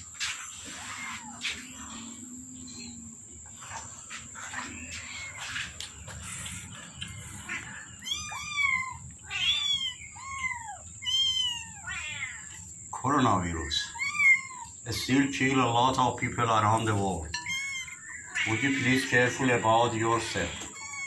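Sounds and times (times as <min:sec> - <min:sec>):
kittens mewing: 0:00.0 - 0:03.8, 0:04.4 - 0:12.7, 0:13.6 - 0:14.8, 0:16.8 - 0:21.0.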